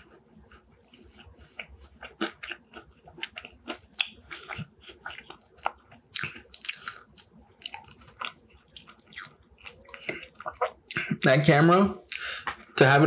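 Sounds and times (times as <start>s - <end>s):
person chewing food: 0.0s - 11.3s, 12.0s - 12.8s.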